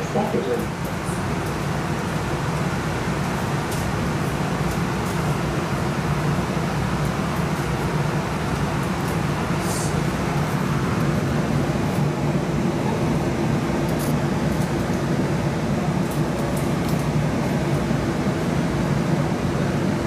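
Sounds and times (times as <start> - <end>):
air conditioning hum: 0.0 - 20.0.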